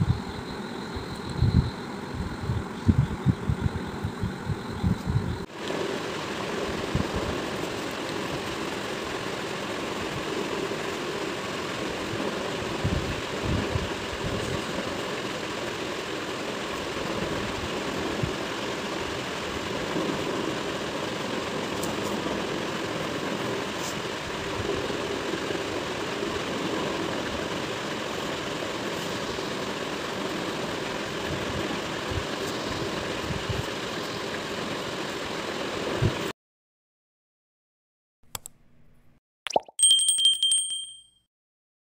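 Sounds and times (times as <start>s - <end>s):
steady mechanical hum: 0.0s - 36.3s.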